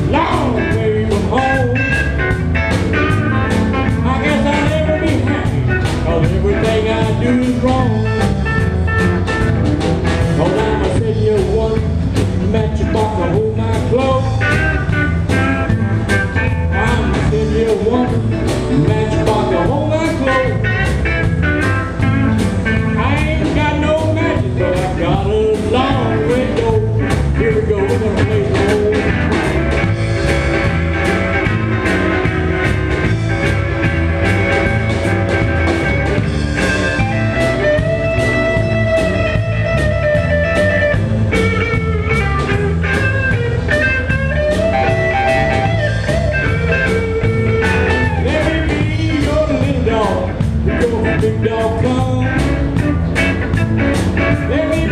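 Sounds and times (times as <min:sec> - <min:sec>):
drum kit beat: 0:00.0 - 0:54.9
lead electric guitar line: 0:00.0 - 0:54.9
rock band playing blues: 0:00.0 - 0:54.9.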